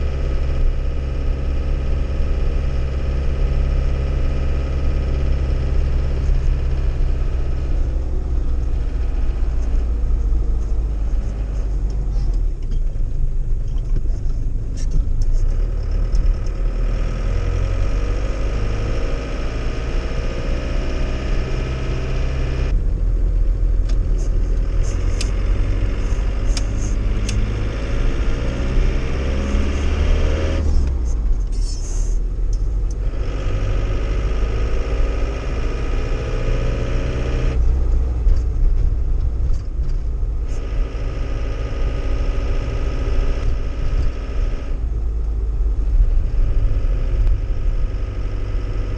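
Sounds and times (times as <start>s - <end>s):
diesel truck engine driving: 0.0s - 48.9s.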